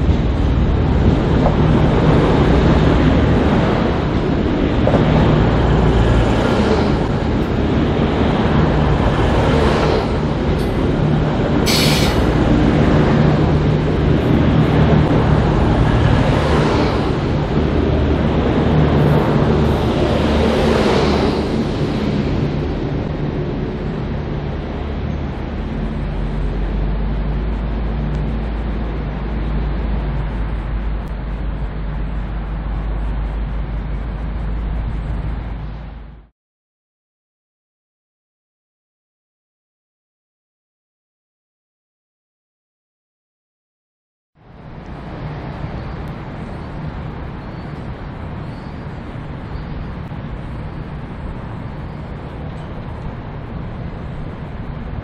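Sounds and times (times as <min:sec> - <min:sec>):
diesel locomotive engine droning: 0:00.0 - 0:36.3, 0:44.4 - 0:55.0.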